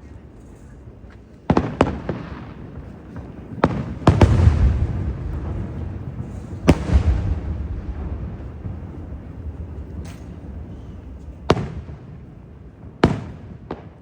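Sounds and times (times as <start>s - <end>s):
low rolling rumble: 0.0s - 12.6s
fireworks bangs: 0.2s - 14.0s.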